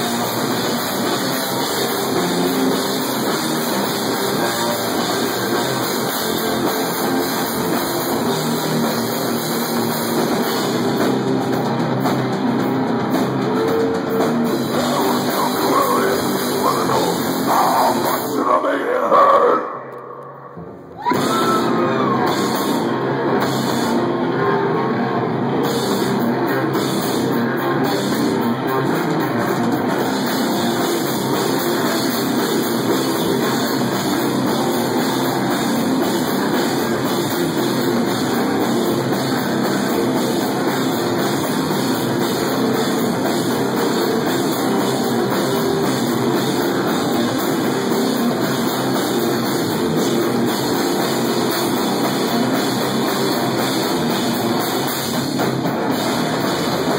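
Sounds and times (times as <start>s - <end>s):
live heavy rock band: 0.0s - 56.9s.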